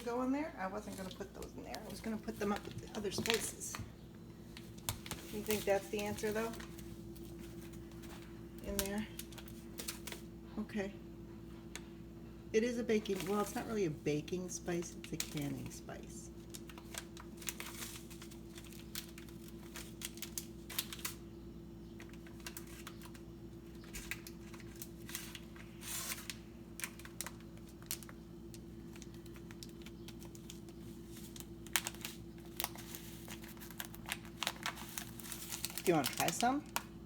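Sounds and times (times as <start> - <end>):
steady low hum: 0.0 - 37.0
packets crinkling: 0.1 - 10.3, 13.0 - 13.8, 14.8 - 21.3, 22.0 - 37.0.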